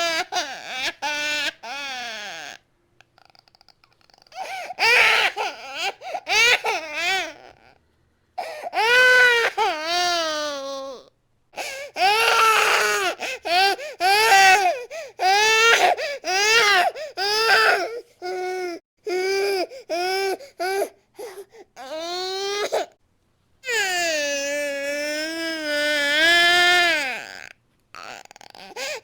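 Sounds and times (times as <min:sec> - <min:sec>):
baby crying: 0:00.0 - 0:02.6, 0:04.3 - 0:07.7, 0:08.4 - 0:22.9, 0:23.6 - 0:29.0.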